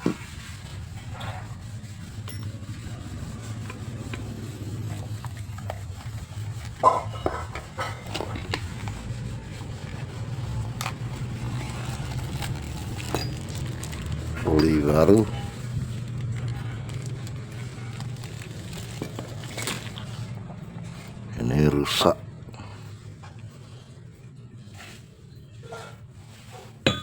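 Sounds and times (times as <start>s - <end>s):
steady low hum: 0.0s - 25.5s.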